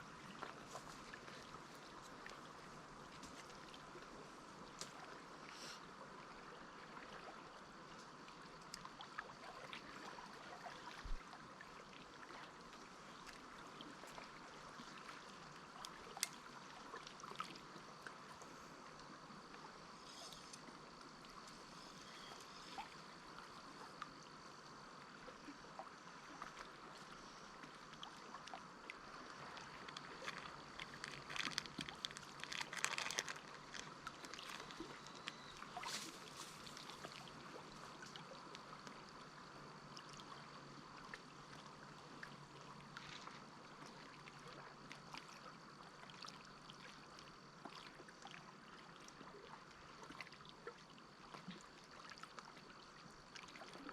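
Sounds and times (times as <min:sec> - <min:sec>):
water splashing and trickling: 0:00.0 - 0:53.9.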